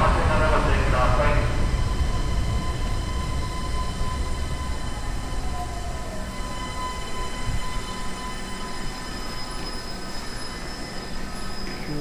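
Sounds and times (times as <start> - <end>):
high whining tones: 0.0 - 12.0
train wheels rumbling: 0.0 - 12.0.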